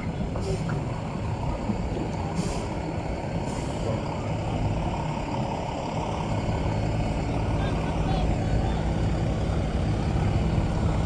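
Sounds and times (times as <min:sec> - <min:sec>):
road noise: 0:00.0 - 0:11.0
vehicle engine rumble: 0:00.0 - 0:11.0.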